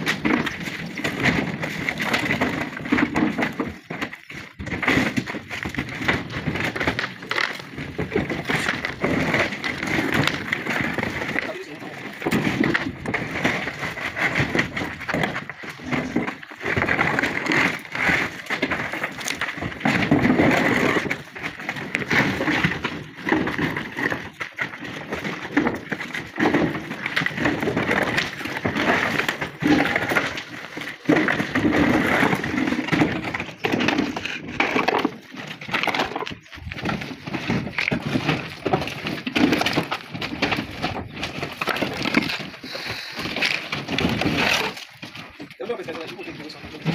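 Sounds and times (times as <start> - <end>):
stone slabs clattering: 0.0 - 46.9.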